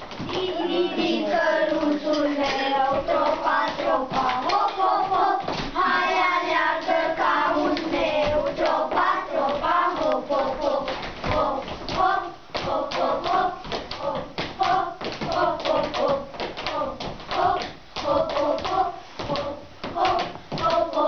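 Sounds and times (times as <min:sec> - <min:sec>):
children chanting in unison: 0:00.3 - 0:21.0.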